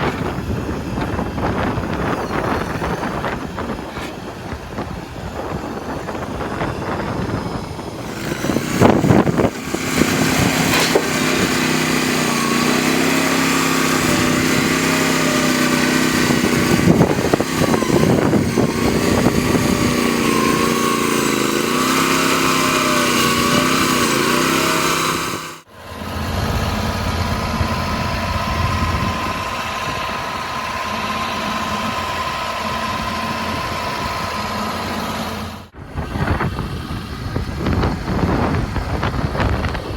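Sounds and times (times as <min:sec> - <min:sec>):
skid steer loader engine running: 0:00.0 - 0:39.9.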